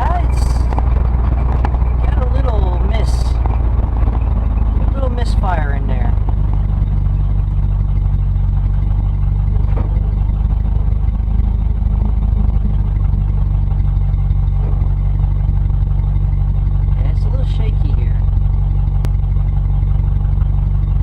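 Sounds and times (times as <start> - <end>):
engine running with low drone: 0.0 - 21.0.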